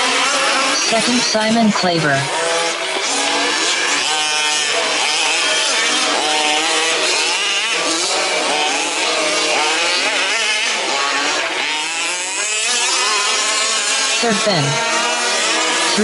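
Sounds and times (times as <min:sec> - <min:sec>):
small two-stroke engines revving: 0:00.0 - 0:16.0.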